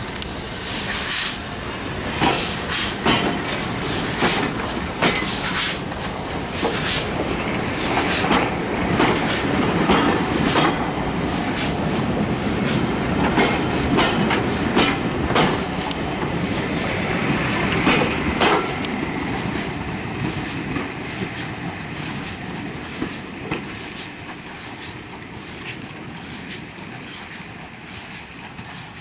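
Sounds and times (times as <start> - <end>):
train wheels clicking over rail joints: 0.1 - 29.0.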